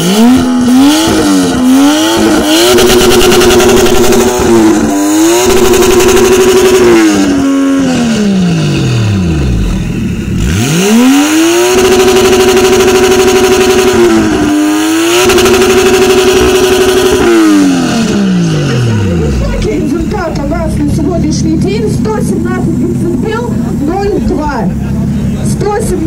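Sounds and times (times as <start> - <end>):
car engine revving hard: 0.0 - 26.0.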